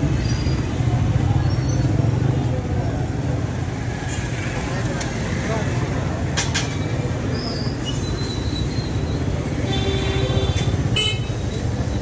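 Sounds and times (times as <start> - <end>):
car engines rumbling in traffic: 0.0 - 12.0.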